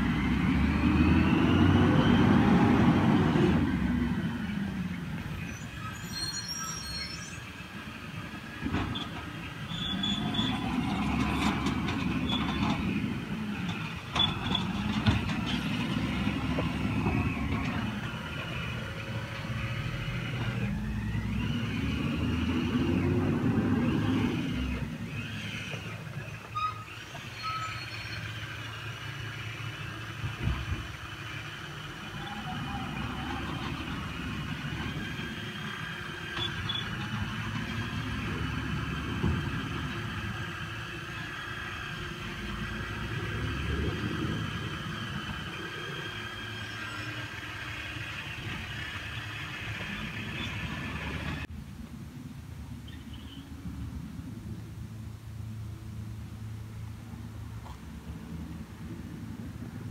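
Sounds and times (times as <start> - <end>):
truck engine revving: 0.0 - 6.2, 7.8 - 51.5.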